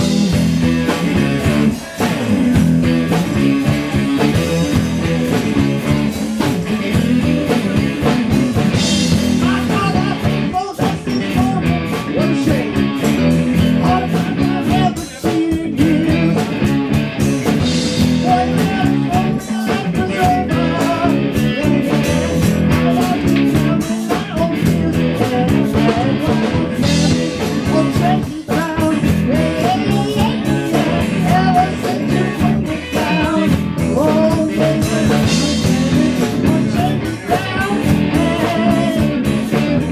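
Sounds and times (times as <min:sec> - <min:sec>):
blues-rock band playing: 0:00.0 - 0:39.9.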